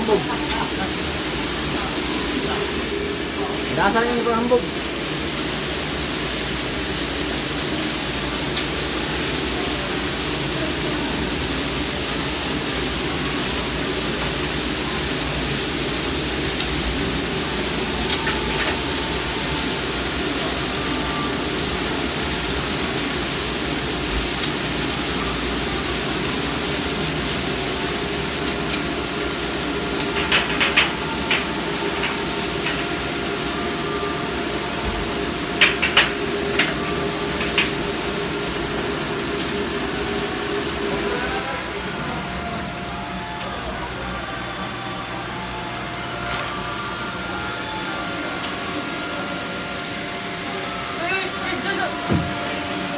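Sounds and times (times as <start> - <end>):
dishwasher water jets spraying: 0.0 - 47.3, 48.1 - 52.9.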